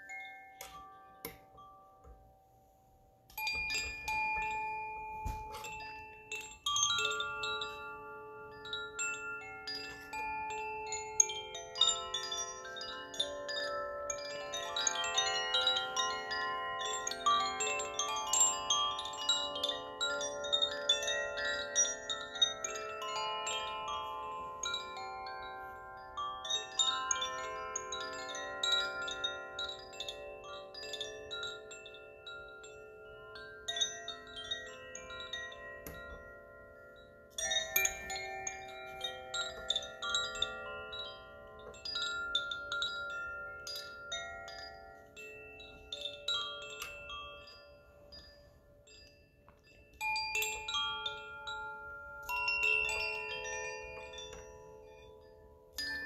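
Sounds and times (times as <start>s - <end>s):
wooden chimes ringing: 0.0s - 56.0s.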